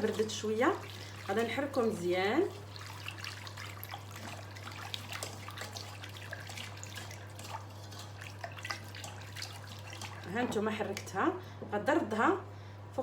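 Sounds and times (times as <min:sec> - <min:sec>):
liquid splashing in pot: 0:00.0 - 0:11.2.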